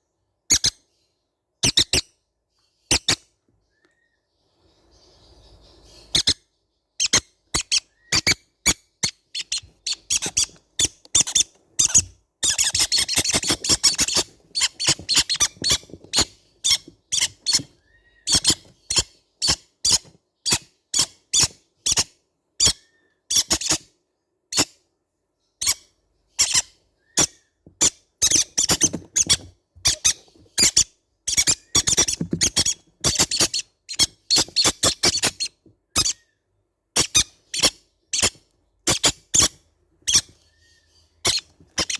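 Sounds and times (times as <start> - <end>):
baby parrots squeaking: 0.5 - 0.8, 1.6 - 2.1, 2.8 - 3.2, 4.9 - 23.9, 24.5 - 24.8, 25.6 - 41.9.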